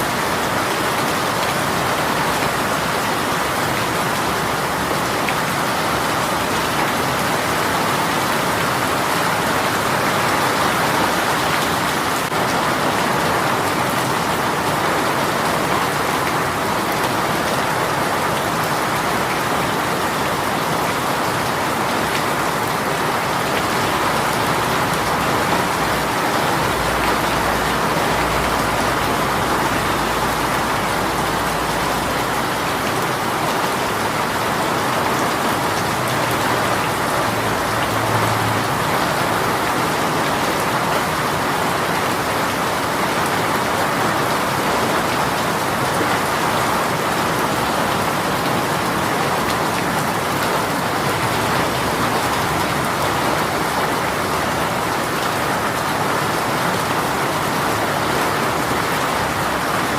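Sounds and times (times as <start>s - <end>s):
heavy rain patter: 0.0s - 59.9s.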